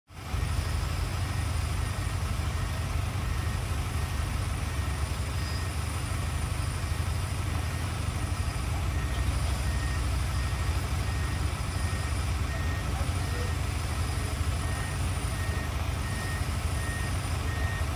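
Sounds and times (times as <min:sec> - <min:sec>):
diesel engine running: 0:00.1 - 0:17.9
reversing alarm beeping: 0:00.2 - 0:17.9.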